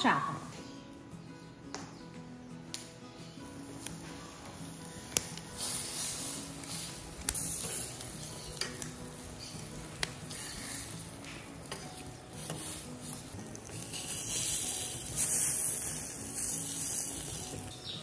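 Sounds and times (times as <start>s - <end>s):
pork skin sizzling on hot iron: 3.5s - 18.0s.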